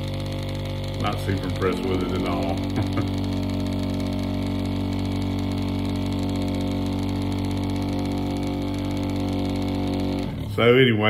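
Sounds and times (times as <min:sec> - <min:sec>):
vortex mixer motor humming: 0:00.0 - 0:11.0.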